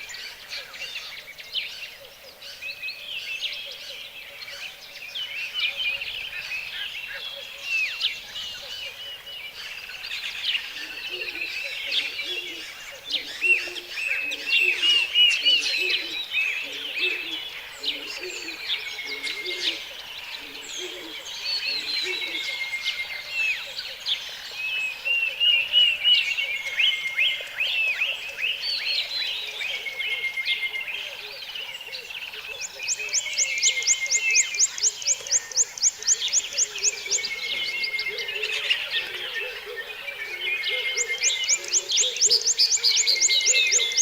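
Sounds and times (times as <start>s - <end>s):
birds calling and singing: 0.0s - 44.0s.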